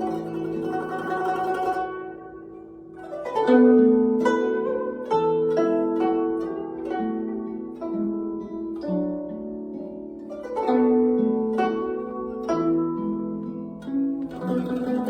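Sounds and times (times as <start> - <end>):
plucked zither melody: 0.0 - 15.0.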